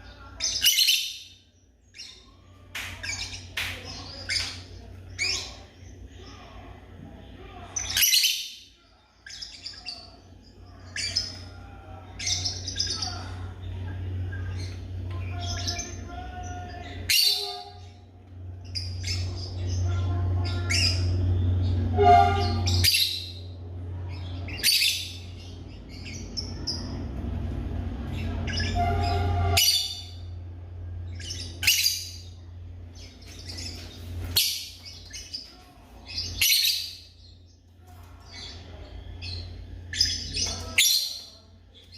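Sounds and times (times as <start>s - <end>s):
lovebirds chirping: 0.0s - 41.9s
low steady hum: 0.0s - 41.9s.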